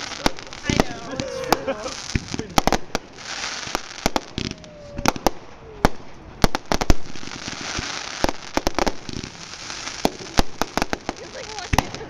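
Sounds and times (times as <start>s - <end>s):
crackling hiss: 0.0s - 12.0s
fireworks bangs and cracks: 0.0s - 12.0s.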